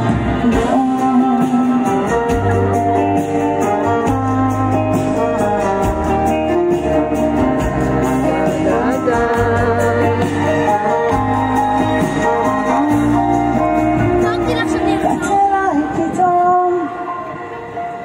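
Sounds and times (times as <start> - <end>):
live pop band playing: 0.0 - 18.0.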